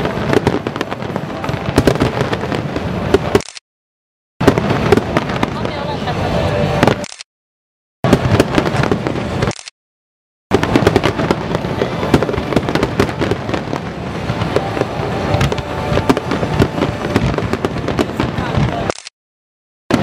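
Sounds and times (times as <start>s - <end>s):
fireworks bangs and crackles: 0.0s - 3.5s, 4.4s - 7.0s, 8.0s - 9.5s, 10.5s - 19.0s.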